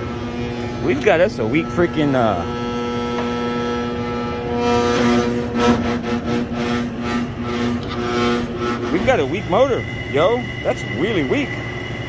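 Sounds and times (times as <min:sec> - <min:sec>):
blower motor humming: 0:00.0 - 0:12.0.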